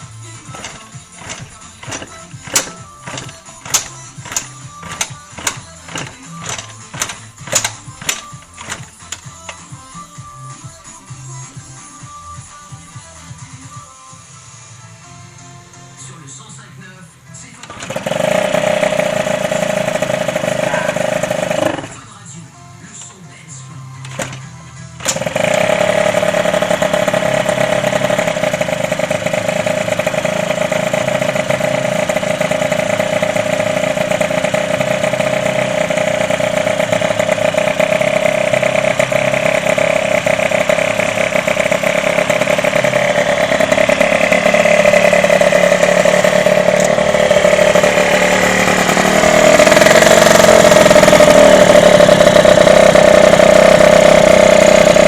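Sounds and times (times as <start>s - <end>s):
small two-stroke engine running: 0.0s - 11.6s, 17.5s - 22.2s, 24.0s - 55.0s.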